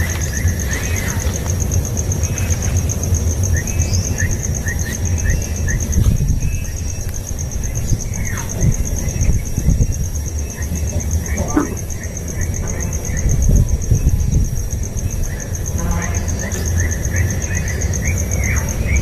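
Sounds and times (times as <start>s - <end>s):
insect trill: 0.0s - 19.0s
small birds chirping: 0.0s - 19.0s.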